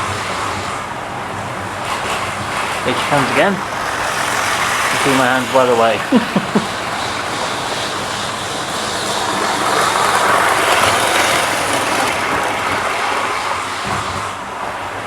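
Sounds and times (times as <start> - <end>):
model train passing: 0.0 - 15.0
wheels running on rails: 0.0 - 15.0.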